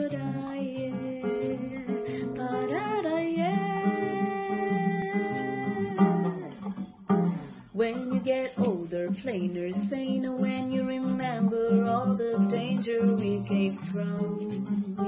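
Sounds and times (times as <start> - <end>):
woman singing long notes: 0.0 - 6.5, 7.8 - 14.7
strummed acoustic guitar: 0.0 - 15.0.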